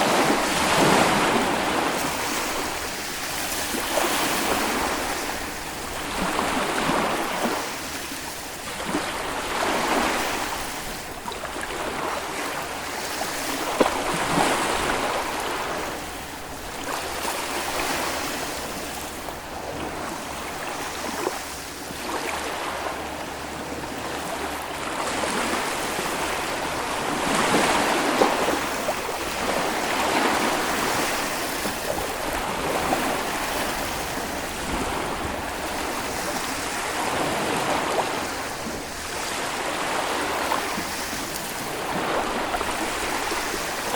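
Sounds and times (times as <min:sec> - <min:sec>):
small waves breaking on beach: 0:00.0 - 0:43.9.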